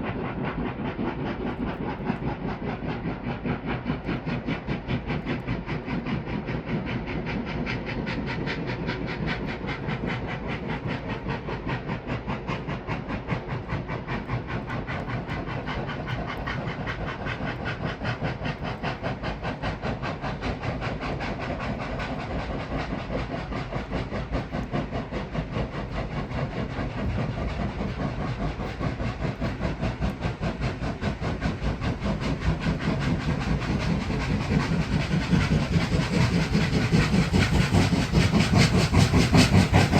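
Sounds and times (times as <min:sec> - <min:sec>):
steam locomotives chuffing: 0:00.0 - 0:39.9.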